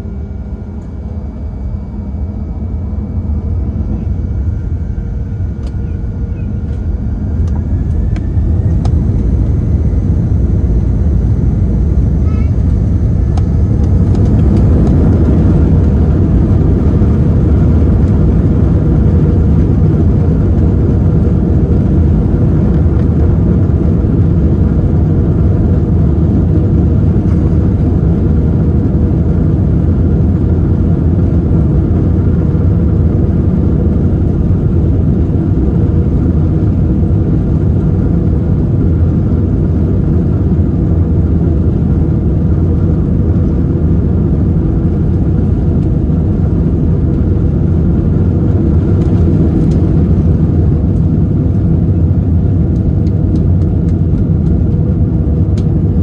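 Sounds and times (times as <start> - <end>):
runway rumble: 0.0 - 24.7, 30.5 - 56.0
jet engines roaring: 0.0 - 56.0.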